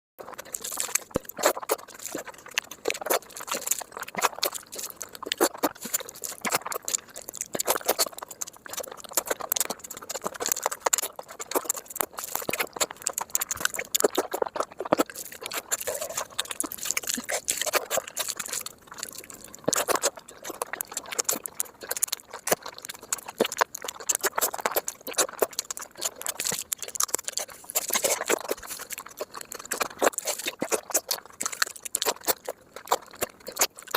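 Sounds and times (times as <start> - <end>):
person chewing and lip smacking: 0.2 - 33.9.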